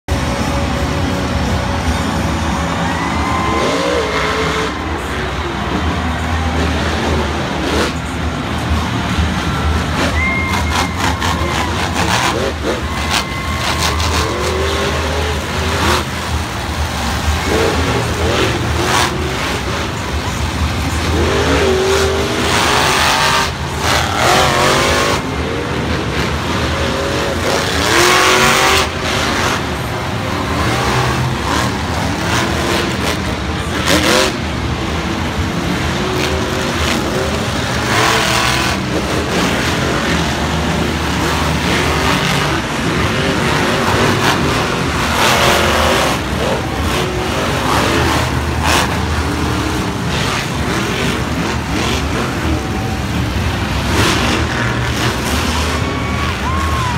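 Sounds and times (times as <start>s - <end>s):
monster truck engines revving: 0.0s - 56.9s.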